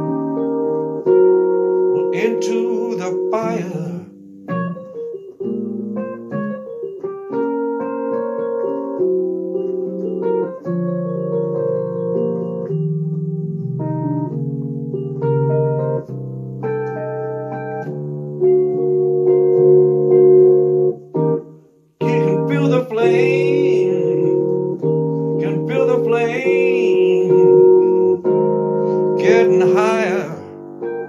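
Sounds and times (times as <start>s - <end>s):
electric piano playing chords: 0.0s - 31.0s.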